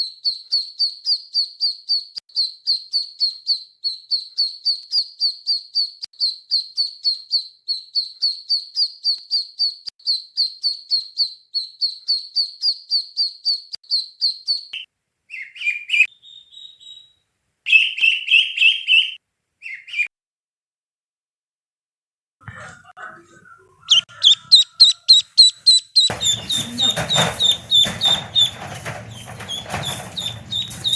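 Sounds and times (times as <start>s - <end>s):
duckling peeping: 0.3s - 20.0s, 23.8s - 30.9s.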